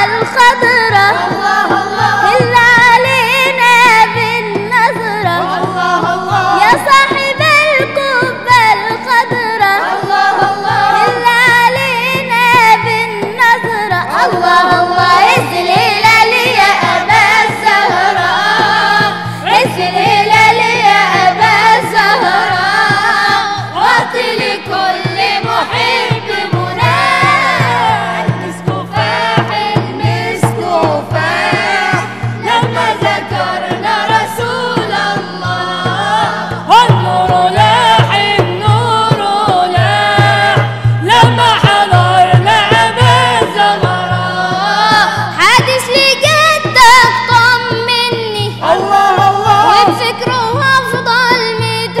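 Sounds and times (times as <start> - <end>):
group of voices singing: 0.0 - 52.0
quick drum beat: 9.8 - 52.0.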